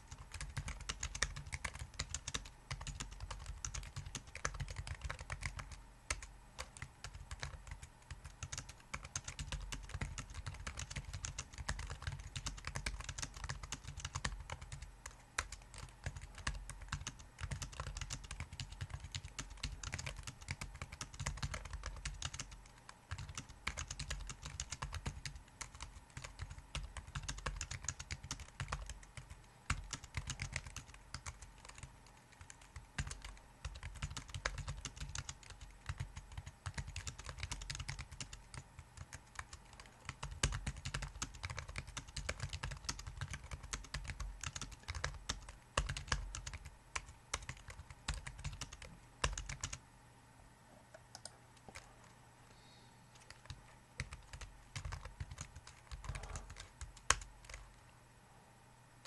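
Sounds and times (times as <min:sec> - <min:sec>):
rapid typing on keyboard: 0:00.0 - 0:49.8, 0:53.1 - 0:57.7.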